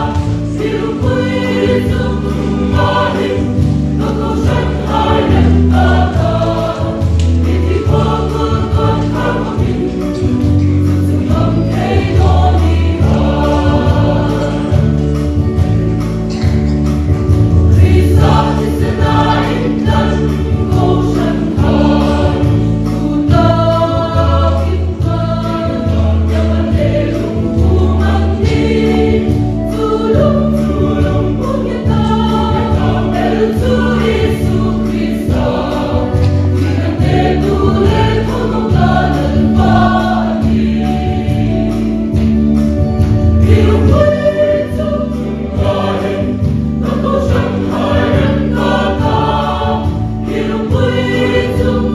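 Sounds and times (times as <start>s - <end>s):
choir singing with accompaniment: 0.0s - 51.9s.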